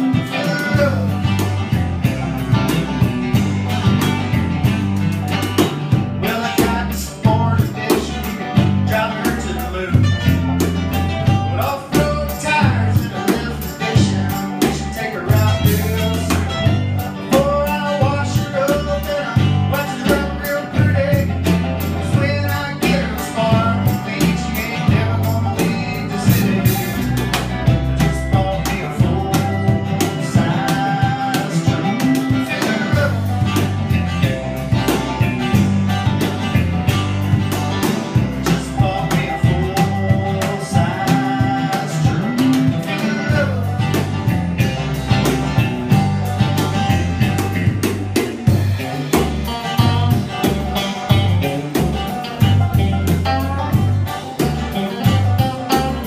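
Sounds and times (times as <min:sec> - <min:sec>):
man singing: 0:00.0 - 0:03.1, 0:06.2 - 0:35.6, 0:37.8 - 0:47.8, 0:48.4 - 0:56.0
bass guitar: 0:00.0 - 0:56.0
drum kit: 0:00.0 - 0:56.0
electric guitar: 0:00.0 - 0:56.0.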